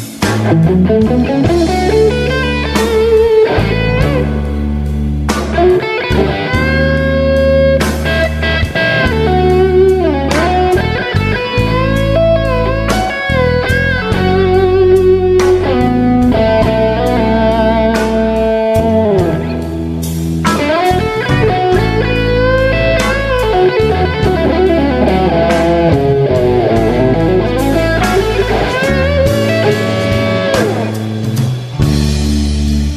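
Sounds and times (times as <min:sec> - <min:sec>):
overdriven electric guitar lead: 0:00.0 - 0:32.9.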